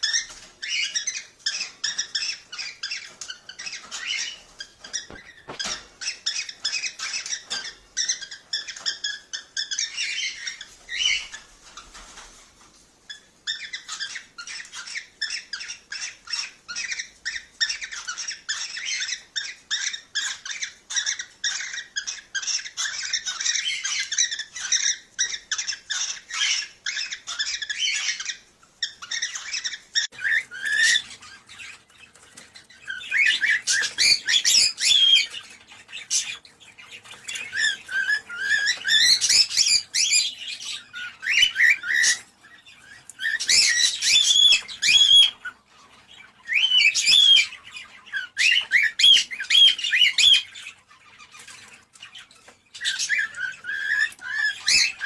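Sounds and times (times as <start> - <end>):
cockatiels chirping and warbling: 0.0 - 55.0.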